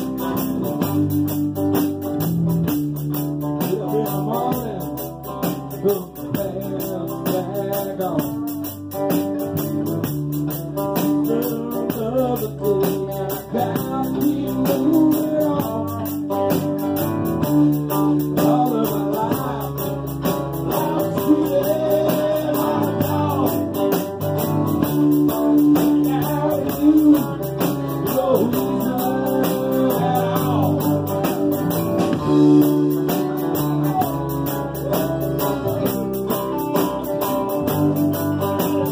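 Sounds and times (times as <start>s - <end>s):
electric bass guitar: 0.0s - 38.9s
strummed acoustic guitars: 0.0s - 38.9s.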